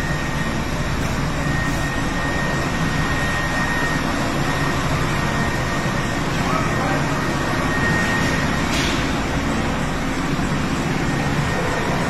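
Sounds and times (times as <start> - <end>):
helicopter rotor rumble: 0.0 - 12.0
helicopter turbine whine: 0.0 - 12.0.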